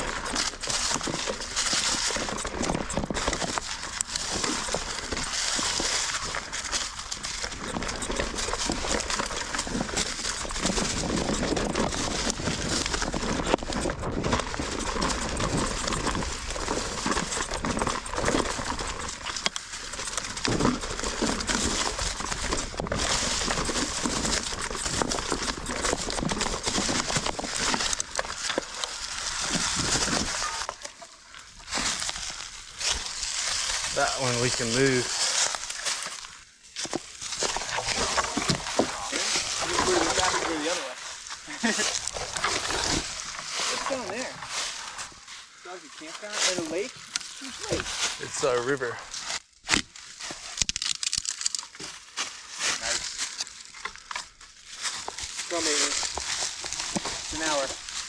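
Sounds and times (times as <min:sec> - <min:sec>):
bike rattling and knocking: 0:00.0 - 0:45.2, 0:52.7 - 0:58.0
tyres crunching on rock and gravel: 0:00.0 - 0:58.0.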